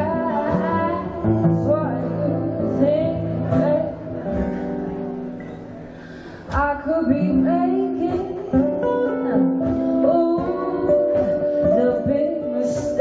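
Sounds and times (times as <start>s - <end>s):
woman singing: 0.0s - 4.7s, 6.5s - 13.0s
acoustic guitars playing: 0.0s - 13.0s.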